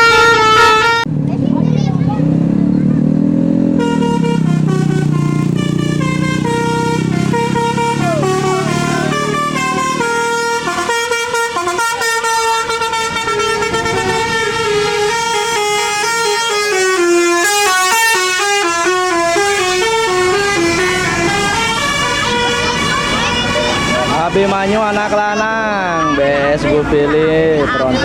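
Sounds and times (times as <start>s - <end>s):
multi-tone bus horn melody: 0.0s - 1.1s, 2.8s - 28.0s
bus engine running low: 0.0s - 28.0s.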